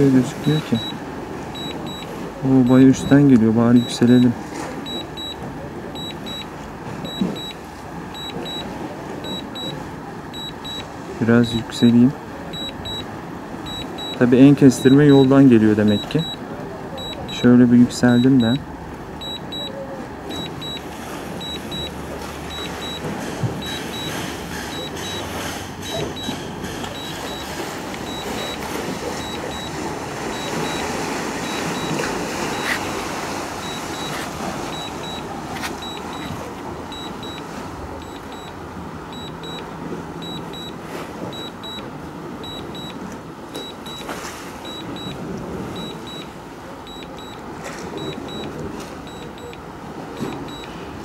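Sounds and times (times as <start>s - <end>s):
rushing outdoor background noise: 0.0s - 51.0s
remote controller double beep: 0.4s - 9.8s, 10.4s - 10.9s, 12.5s - 13.1s, 13.7s - 16.4s, 17.0s - 18.6s, 19.2s - 32.8s, 33.6s - 43.0s, 43.6s - 47.4s, 48.0s - 49.6s, 50.2s - 50.8s.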